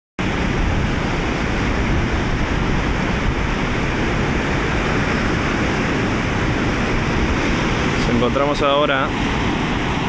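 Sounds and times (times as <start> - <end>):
waves washing over rocks: 0.2 - 10.0
wind on microphone: 0.2 - 10.0.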